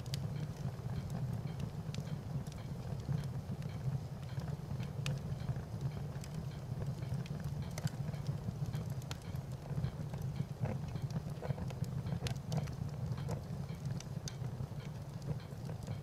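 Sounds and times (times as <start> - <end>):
fire crackling: 0.0 - 16.0.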